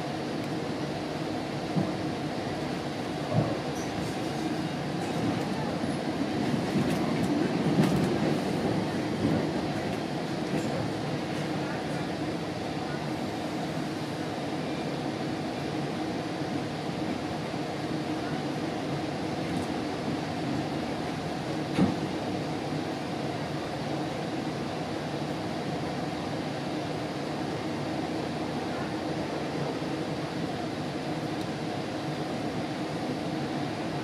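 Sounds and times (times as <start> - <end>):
train coach rumble: 0.0 - 34.0.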